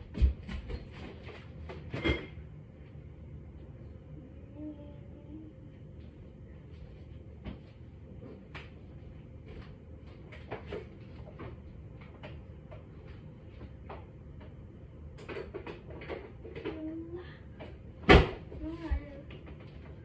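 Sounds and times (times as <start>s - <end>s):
refrigerator hum: 0.0s - 20.0s.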